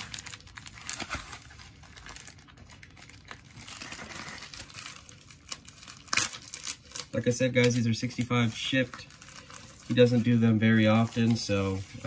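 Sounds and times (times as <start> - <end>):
plastic mailer crinkling: 0.0 - 12.0.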